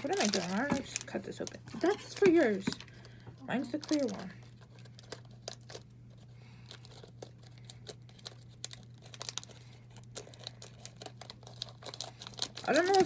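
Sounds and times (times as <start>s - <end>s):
faint low hum: 0.0s - 13.0s
plastic wrapper crinkling: 0.0s - 13.0s.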